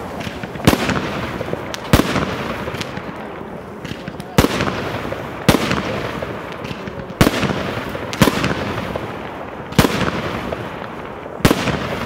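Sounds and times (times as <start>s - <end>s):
crackle of fireworks: 0.0s - 12.0s
firework shells bursting: 0.0s - 12.0s.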